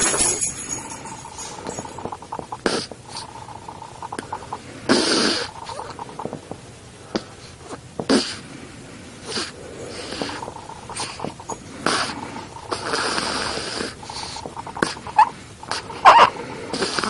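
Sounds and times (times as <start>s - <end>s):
newborn snoring: 0.8s - 8.6s, 9.2s - 17.0s.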